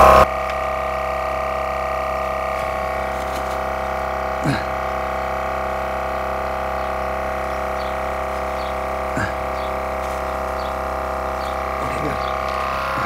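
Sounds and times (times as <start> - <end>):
air compressor drone: 0.0 - 13.0.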